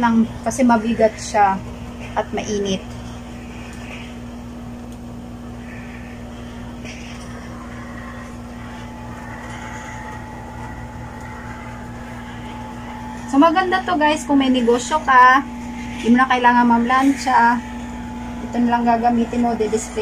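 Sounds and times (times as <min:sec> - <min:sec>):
garment steamer humming: 0:00.0 - 0:20.0.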